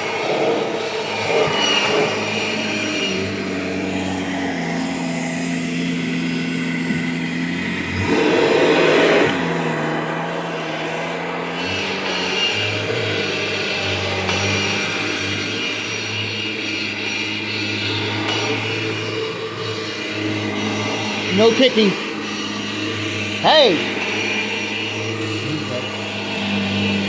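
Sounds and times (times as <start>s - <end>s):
vacuum cleaner motor hum: 0.0s - 27.0s.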